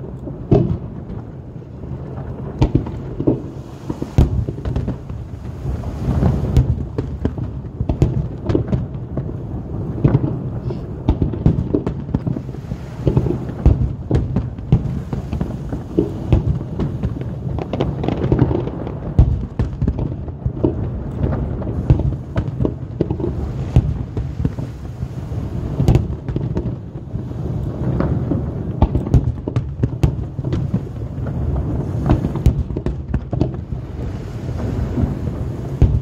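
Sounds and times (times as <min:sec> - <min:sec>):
deep rumble of booms: 0:00.0 - 0:36.0
firework bangs and crackles: 0:00.0 - 0:36.0.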